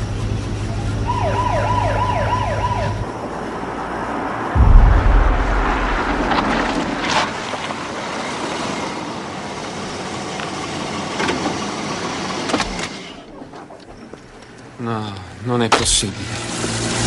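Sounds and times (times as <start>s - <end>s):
car engines: 0.0s - 17.0s.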